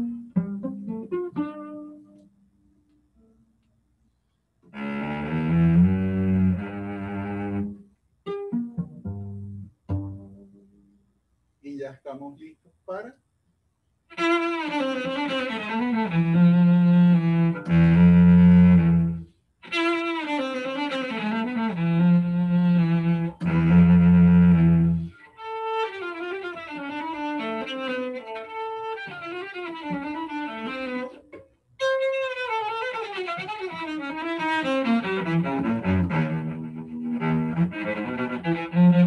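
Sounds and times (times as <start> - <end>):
solo cello bowed: 0.0 - 2.1, 4.6 - 10.6, 14.1 - 39.0.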